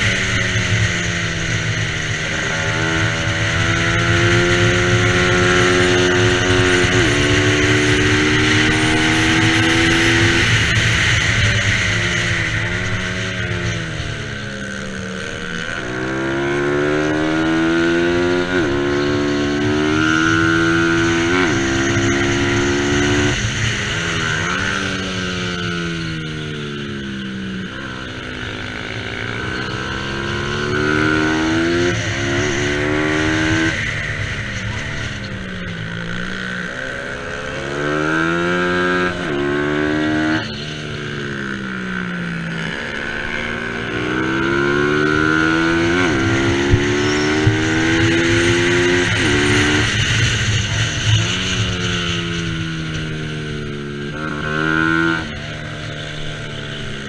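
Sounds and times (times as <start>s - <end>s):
motorcycle engine revving: 0.0s - 57.0s
rushing noise: 0.0s - 57.0s.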